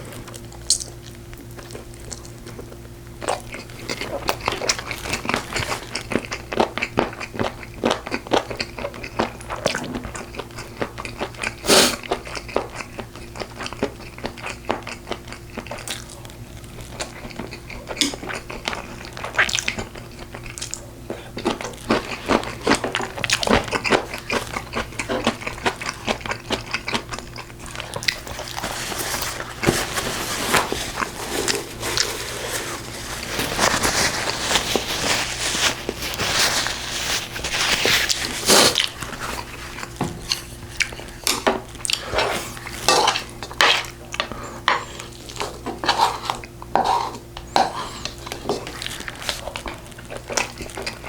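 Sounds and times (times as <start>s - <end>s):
close-up chewing and smacking: 0.0s - 29.8s, 30.5s - 51.0s.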